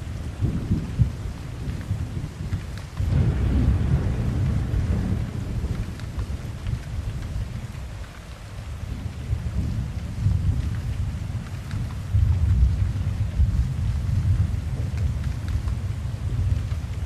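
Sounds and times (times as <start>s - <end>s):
rain pattering: 0.0s - 17.0s
rolling thunder: 0.0s - 17.0s.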